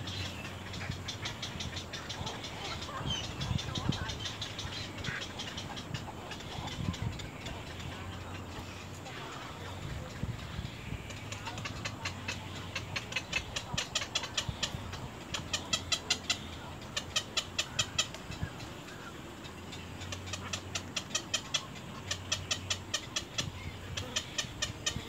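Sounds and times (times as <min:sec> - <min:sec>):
nestlings giving fast ticking calls: 0:00.0 - 0:25.0.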